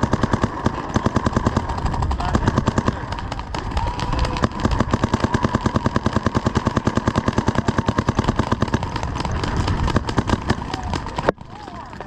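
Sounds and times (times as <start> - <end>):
paintball markers firing rapidly: 0.0 - 12.0.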